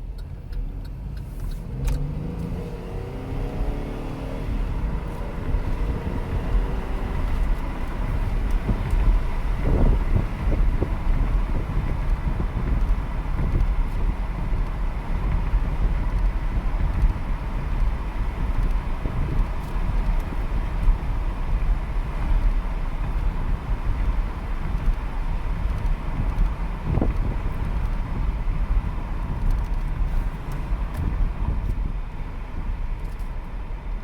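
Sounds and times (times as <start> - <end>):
car engine accelerating: 0.0 - 34.0
road noise: 0.0 - 34.0.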